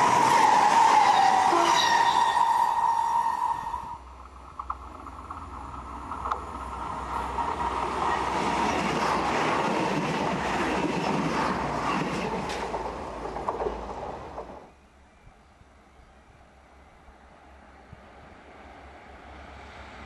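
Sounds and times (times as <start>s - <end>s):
passenger train passing: 0.0s - 20.0s.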